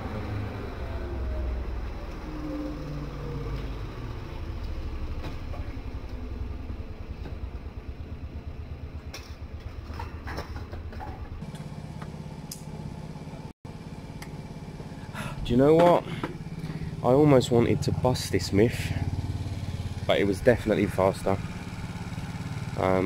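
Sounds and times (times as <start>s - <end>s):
scooter engine idling: 4.1s - 23.0s.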